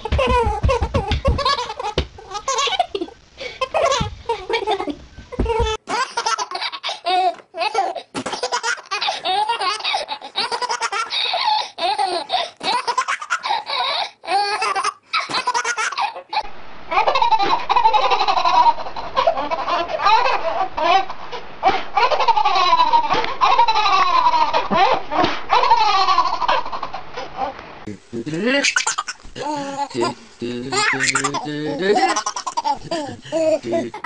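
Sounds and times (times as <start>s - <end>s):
babies laughing together: 0.0s - 4.8s, 5.4s - 27.4s, 28.6s - 34.0s
baby laughing: 0.0s - 27.5s, 28.5s - 34.0s.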